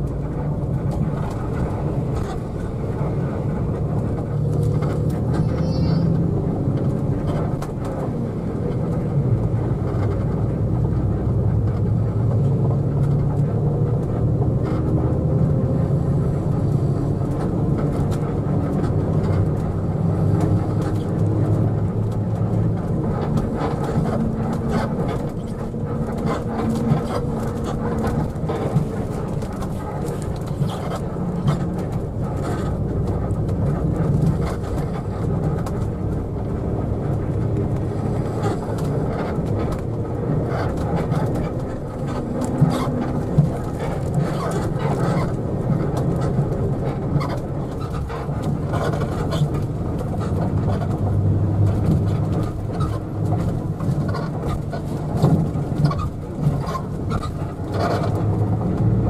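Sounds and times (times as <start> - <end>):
diesel coach engine running: 0.0 - 59.0
tyre and road noise: 0.0 - 59.0.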